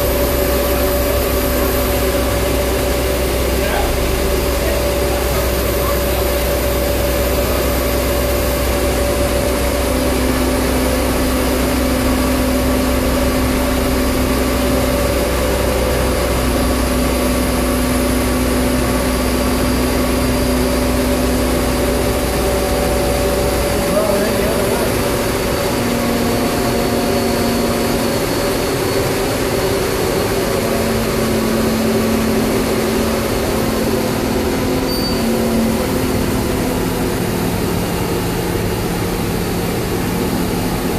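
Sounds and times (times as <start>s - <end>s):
crane engine droning: 0.0s - 40.9s.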